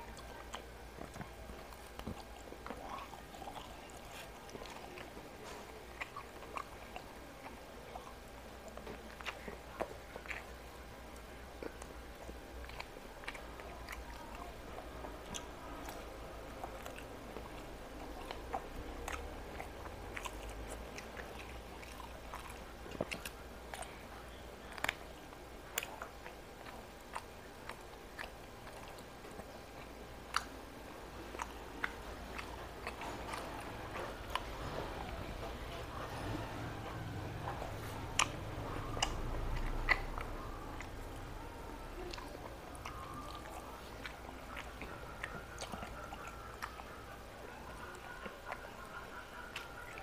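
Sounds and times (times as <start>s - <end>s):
faint low hum: 0.0s - 50.0s
person chewing food: 0.0s - 50.0s.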